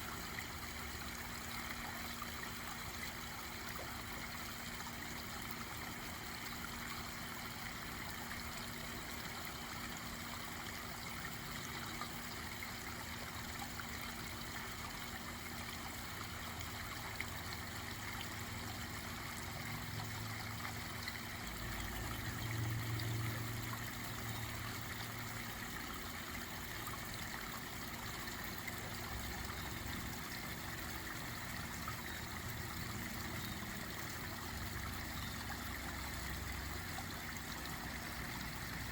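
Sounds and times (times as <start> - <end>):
waterfall trickling and splashing: 0.0 - 38.9.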